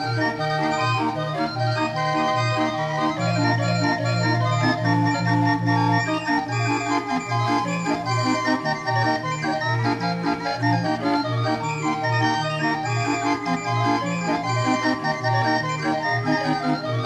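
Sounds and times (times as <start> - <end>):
barrel organ dance tune: 0.0 - 17.0.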